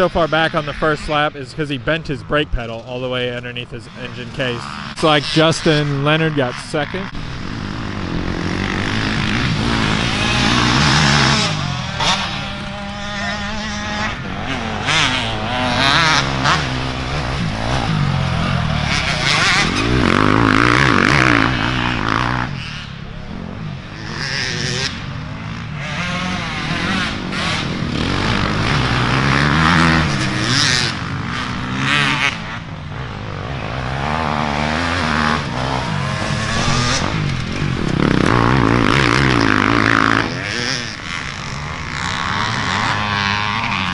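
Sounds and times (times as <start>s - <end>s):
dirt bike engines revving: 0.0s - 43.9s.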